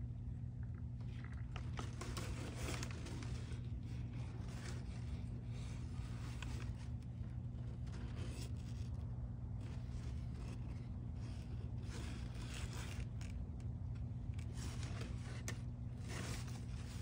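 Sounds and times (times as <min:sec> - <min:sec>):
steady low hum: 0:00.0 - 0:17.0
rustling and scraping of paper: 0:01.1 - 0:17.0.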